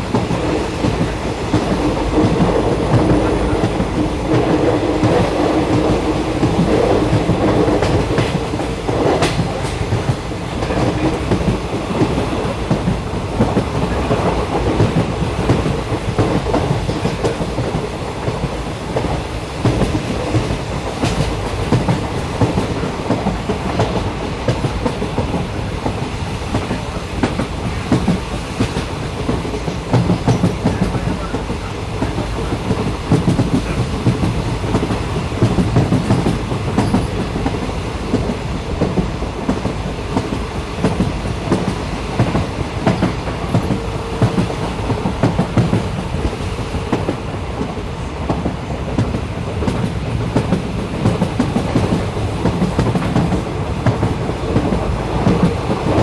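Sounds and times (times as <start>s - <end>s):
clickety-clack over rail joints: 0.0s - 56.0s
train wheels rumbling on track: 0.0s - 56.0s.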